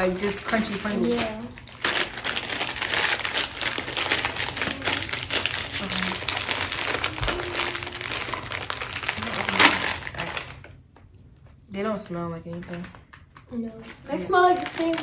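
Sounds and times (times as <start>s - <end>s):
chip bag crinkling: 0.0s - 10.8s, 12.5s - 15.0s.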